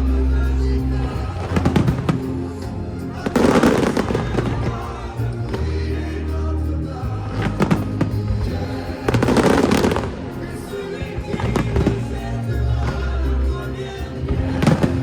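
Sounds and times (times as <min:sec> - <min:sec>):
fireworks bursting: 0:00.0 - 0:06.3, 0:07.2 - 0:15.0
music soundtrack: 0:00.0 - 0:15.0.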